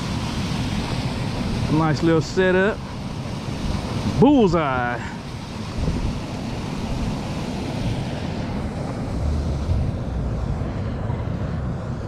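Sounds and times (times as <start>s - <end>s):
churning water rushing: 0.0s - 12.0s
wind buffeting microphone: 0.0s - 12.0s.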